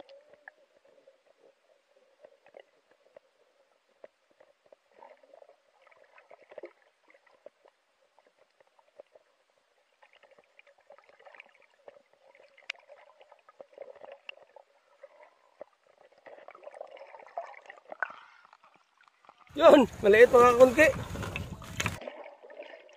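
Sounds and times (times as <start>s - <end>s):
low underwater hum: 0.0s - 22.9s
underwater gurgling: 0.0s - 22.9s.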